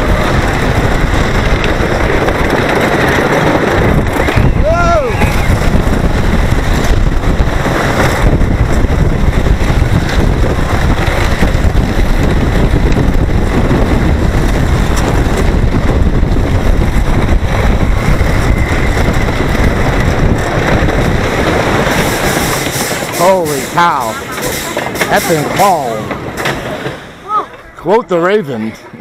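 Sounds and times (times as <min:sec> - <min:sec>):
wind rushing over microphone: 0:00.0 - 0:27.4
roller coaster train rumbling: 0:00.0 - 0:29.0.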